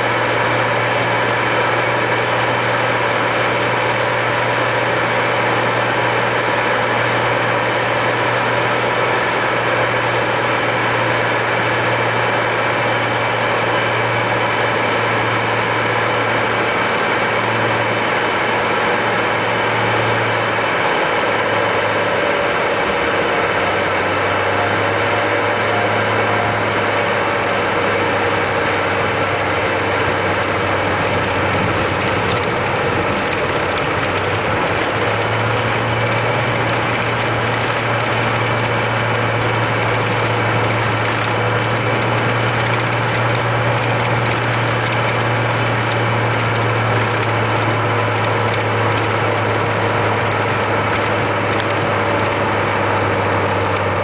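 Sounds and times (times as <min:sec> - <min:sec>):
piston engine and propeller: 0:00.0 - 0:54.0.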